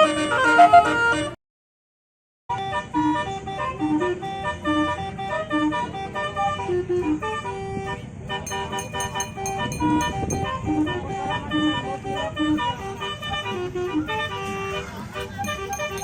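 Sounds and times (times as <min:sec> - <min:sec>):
multi-tone vehicle horn melody: 0:00.0 - 0:01.4, 0:02.5 - 0:16.0.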